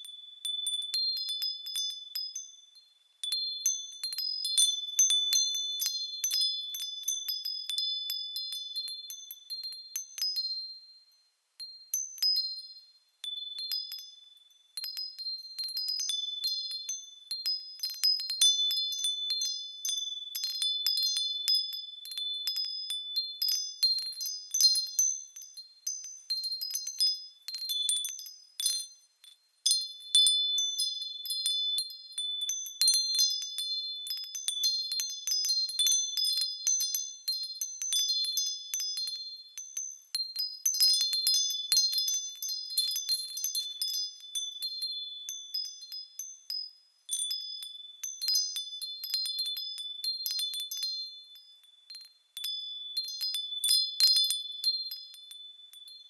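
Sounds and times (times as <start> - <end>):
small bells tinkling: 0.0 - 56.0.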